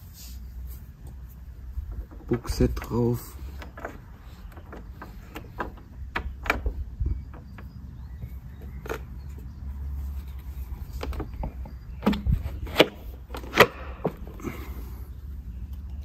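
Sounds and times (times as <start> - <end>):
mower parts clicking and knocking: 1.0 - 16.0.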